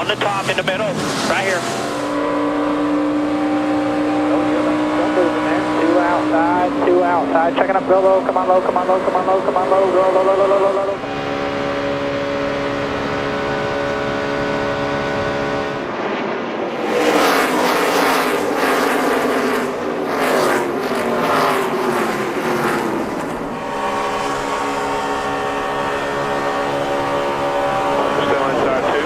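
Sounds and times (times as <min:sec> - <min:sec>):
race car engines droning: 0:00.0 - 0:29.0
race cars rushing past: 0:00.0 - 0:29.0.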